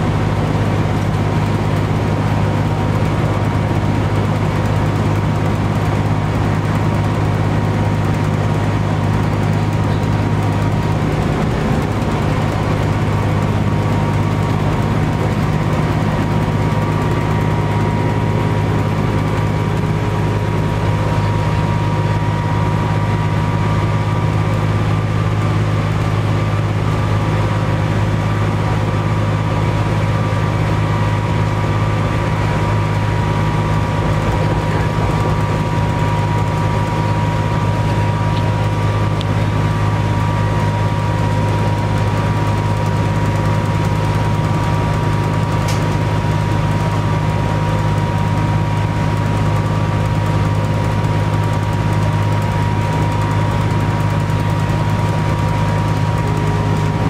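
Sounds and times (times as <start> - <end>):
bus diesel engine running: 0.0 - 57.0
steady whine: 0.0 - 57.0.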